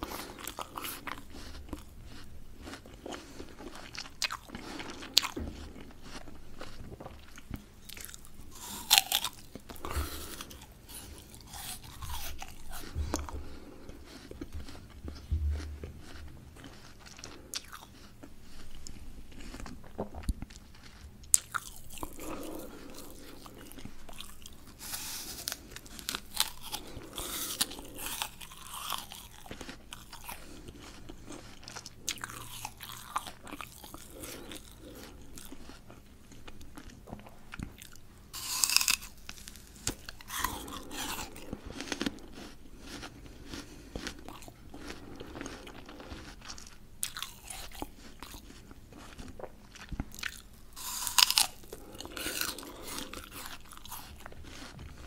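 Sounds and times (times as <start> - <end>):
chewing: 0.0 - 55.0
crunchy bites of raw fruit: 0.0 - 55.0.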